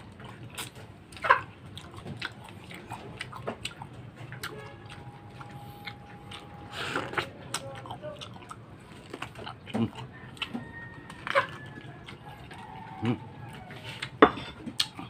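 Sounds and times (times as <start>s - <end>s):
man chewing with wet mouth sounds: 0.0s - 15.0s.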